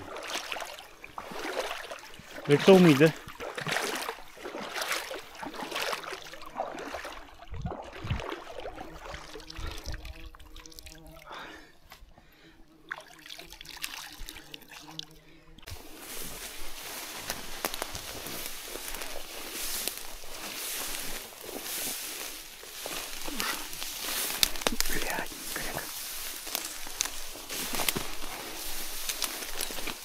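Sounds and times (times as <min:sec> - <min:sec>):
shallow water splashing and trickling: 0:00.0 - 0:11.5, 0:12.8 - 0:30.0.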